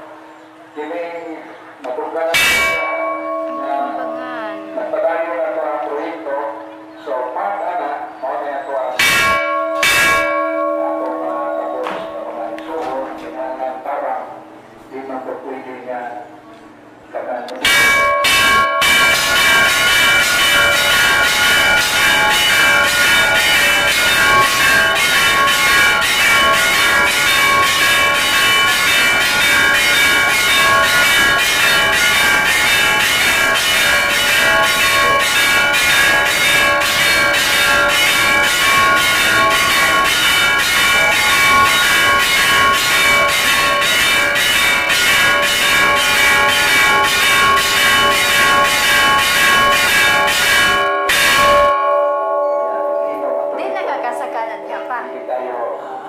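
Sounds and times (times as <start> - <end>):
church bells ringing: 0.0 - 16.2, 17.6 - 55.9.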